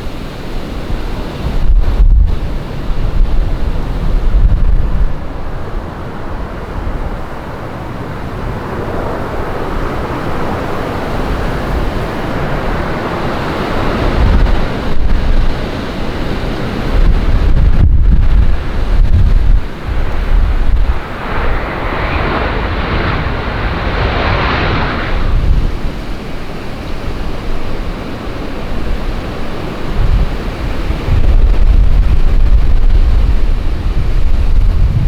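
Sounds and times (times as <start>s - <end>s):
passing airliner jet engine: 0.0s - 35.0s
wind buffeting microphone: 0.0s - 35.0s.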